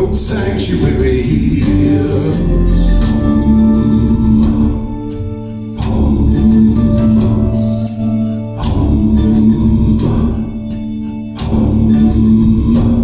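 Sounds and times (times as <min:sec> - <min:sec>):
instrumental music over loudspeakers: 0:00.0 - 0:13.0.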